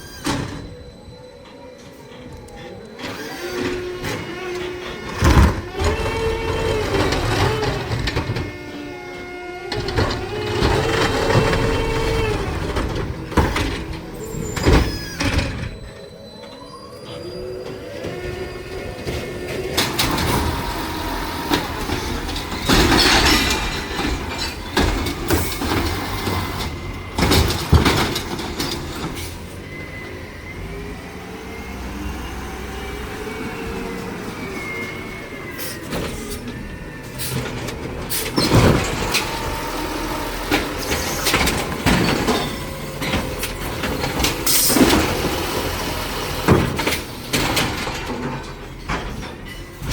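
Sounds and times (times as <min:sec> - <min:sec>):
garbage truck engine and hydraulics: 0:00.0 - 0:49.9.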